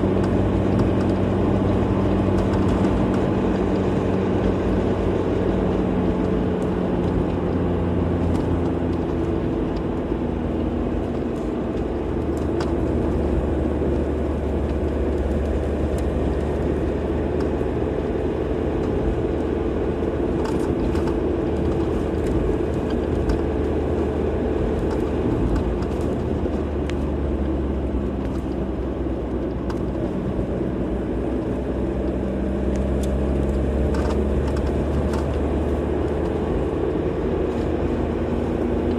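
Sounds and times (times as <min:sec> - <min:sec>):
low engine hum: 0:00.0 - 0:38.9
tyres rumbling on road: 0:00.0 - 0:38.9.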